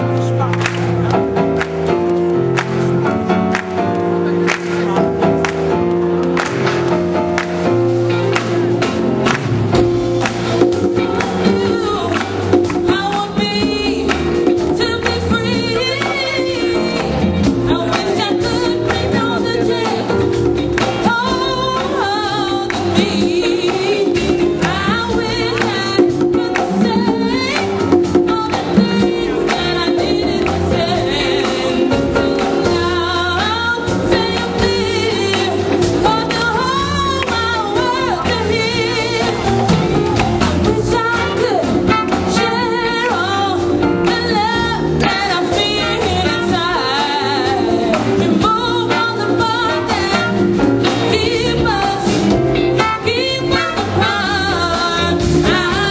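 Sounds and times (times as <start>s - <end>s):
live band playing: 0.0s - 55.9s.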